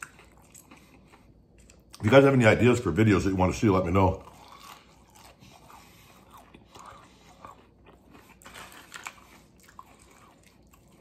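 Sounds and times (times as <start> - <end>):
chewing crunchy food: 0.0 - 2.4, 3.4 - 11.0.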